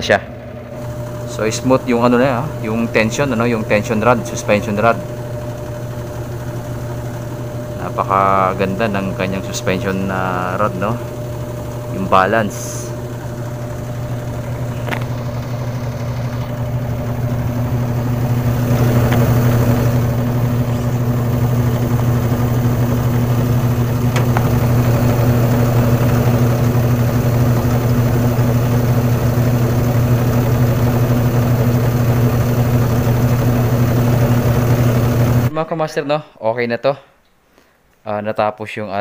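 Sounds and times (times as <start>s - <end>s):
washing machine spinning: 0.0s - 35.5s.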